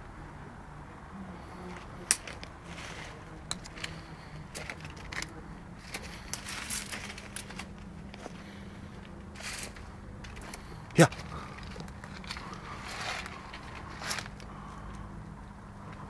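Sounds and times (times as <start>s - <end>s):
faint steady hum: 0.0s - 16.0s
leaves and twigs crackling: 1.4s - 16.0s.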